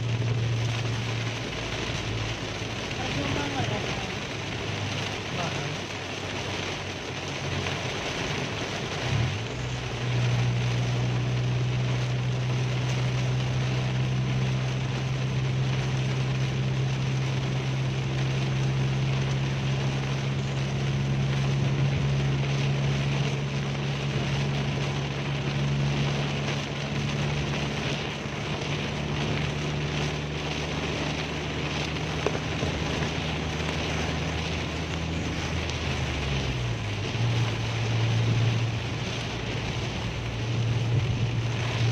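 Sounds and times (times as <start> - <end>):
car engine and tyres at highway speed: 0.0 - 41.9
heavy rain: 0.0 - 41.9
wet road spray: 0.0 - 41.9.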